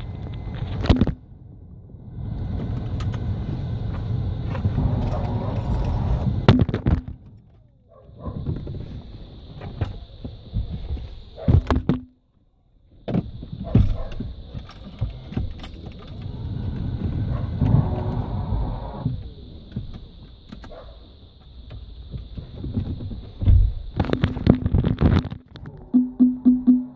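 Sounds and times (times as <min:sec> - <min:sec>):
faint high whine: 0:00.0 - 0:11.4, 0:12.3 - 0:26.9.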